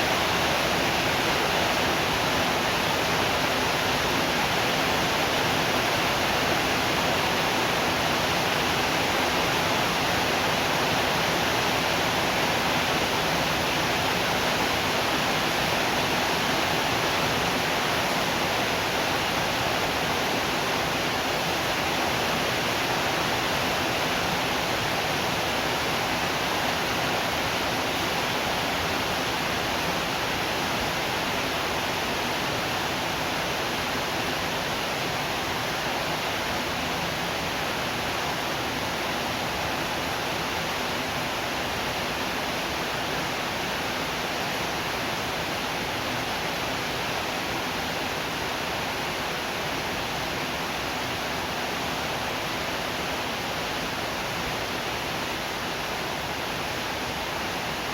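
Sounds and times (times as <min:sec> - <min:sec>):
rain falling steadily: 0:00.0 - 0:57.9.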